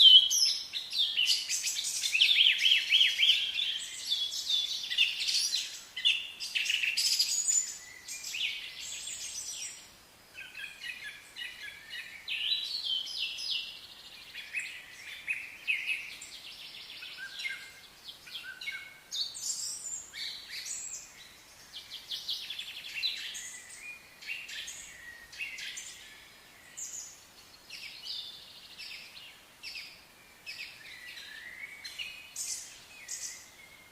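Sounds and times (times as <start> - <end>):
wild birds singing and chirping: 0.0 - 33.9.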